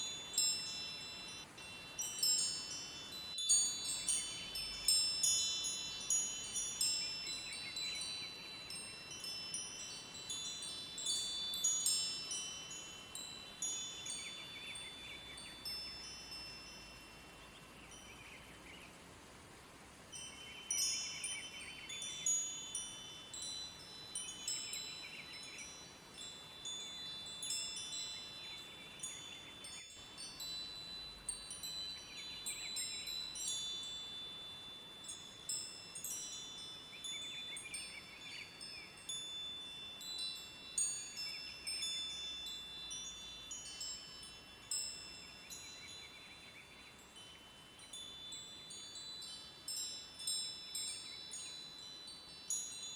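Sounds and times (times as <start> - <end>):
wind chimes ringing: 0.0 - 18.5, 20.1 - 52.9.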